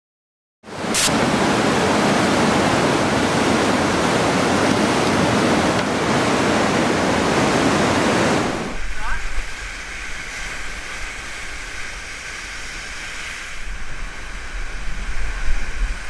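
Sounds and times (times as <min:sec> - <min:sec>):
whitewater rapids roaring: 0:00.7 - 0:16.0.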